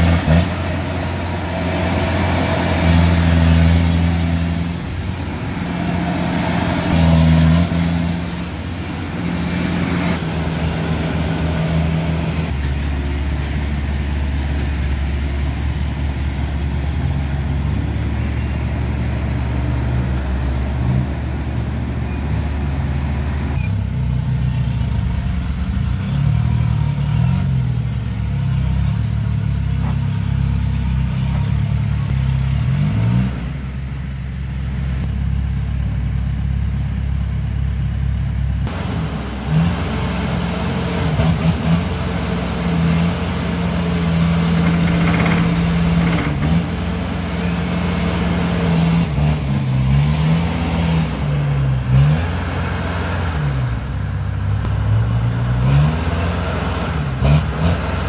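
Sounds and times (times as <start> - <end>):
harvester engine revving: 0.0 - 35.2, 38.6 - 58.0.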